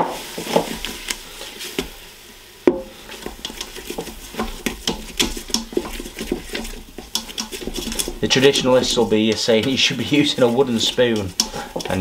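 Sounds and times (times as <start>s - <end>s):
roux sizzling: 0.0s - 12.0s
whisk scraping a pot: 0.3s - 2.0s, 2.9s - 12.0s.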